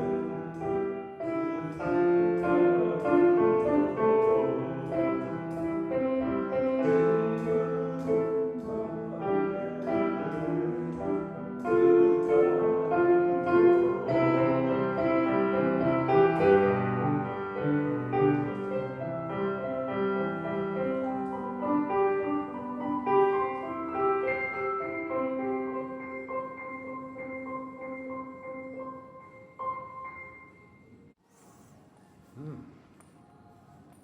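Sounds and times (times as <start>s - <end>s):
solo piano melody: 0.0s - 31.2s.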